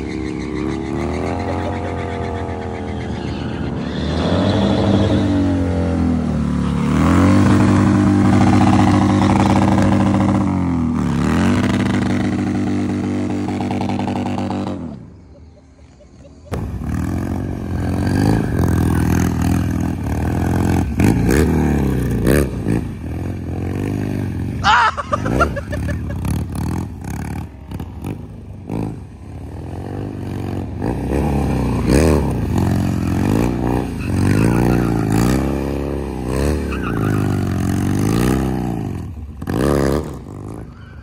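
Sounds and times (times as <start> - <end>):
motorcycle engine revving: 0.0 - 15.2, 16.5 - 41.0
motorcycle engine at high revs: 4.1 - 15.1, 16.5 - 40.8.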